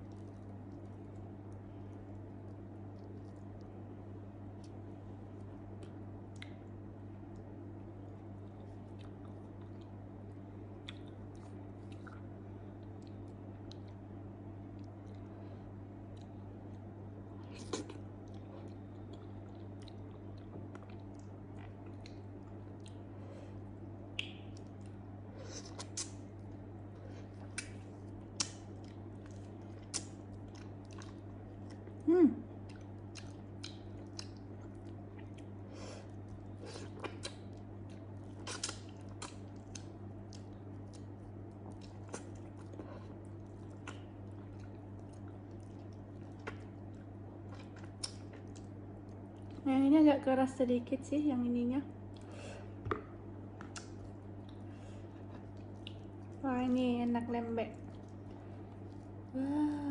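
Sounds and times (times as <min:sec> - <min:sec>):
chewing and wet mouth sounds: 0:00.0 - 0:49.9, 0:51.9 - 0:59.6
low hum: 0:00.0 - 0:59.9.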